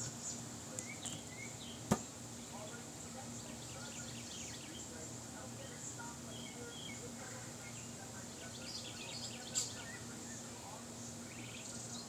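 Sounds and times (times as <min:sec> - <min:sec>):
birds chirping: 0:00.0 - 0:12.0
steady high-pitched hiss: 0:00.0 - 0:12.0.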